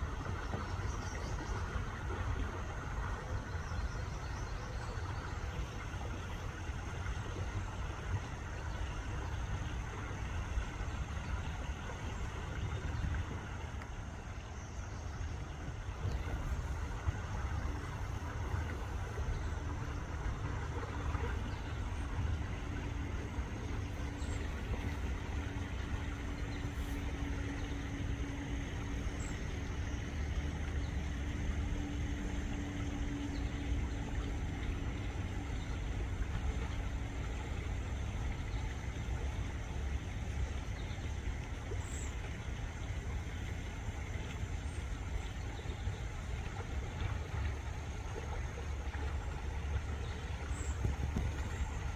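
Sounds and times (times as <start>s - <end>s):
droning hum: 0.0s - 51.9s
low rumble of distant motor: 0.0s - 51.9s.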